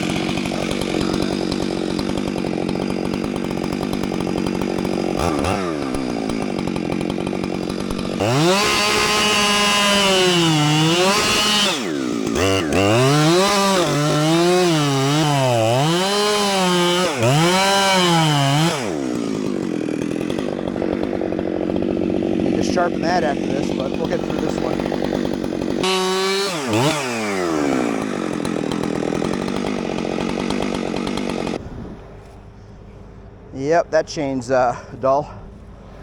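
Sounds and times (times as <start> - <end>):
chainsaw cutting wood: 0.0 - 32.4.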